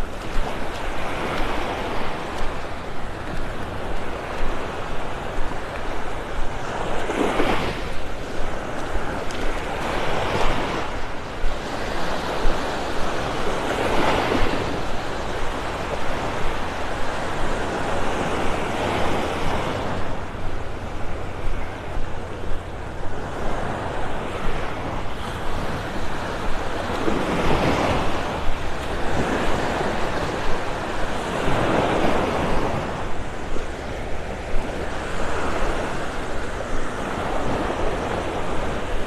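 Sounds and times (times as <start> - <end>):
small waves washing on sand: 0.0 - 39.0.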